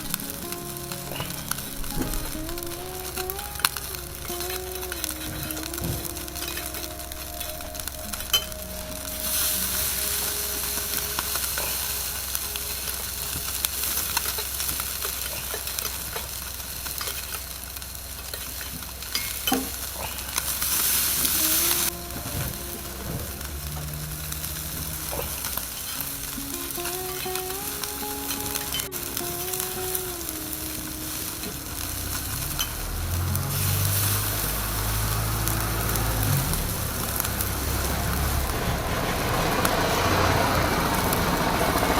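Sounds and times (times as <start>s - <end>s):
skewers sizzling over charcoal: 0.0s - 41.9s.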